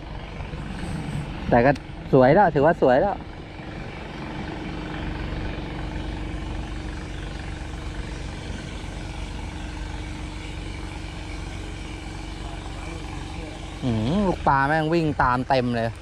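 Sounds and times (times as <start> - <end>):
low rumble: 0.0 - 16.0
steady mechanical hum: 0.0 - 16.0.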